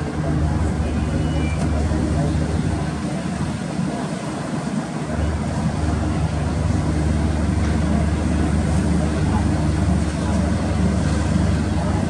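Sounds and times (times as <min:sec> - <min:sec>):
ship engines droning: 0:00.0 - 0:12.0
wind and water rushing: 0:00.0 - 0:12.0.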